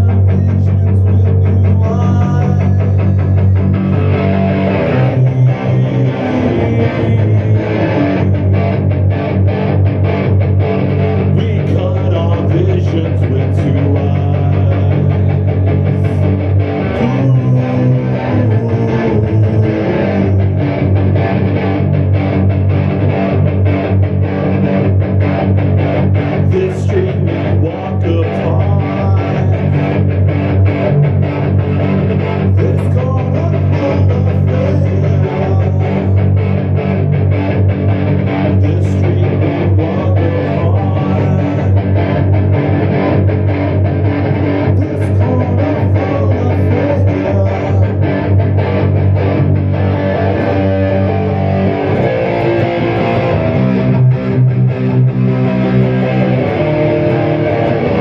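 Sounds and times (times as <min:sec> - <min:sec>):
instrumental rock music: 0:00.0 - 0:58.0.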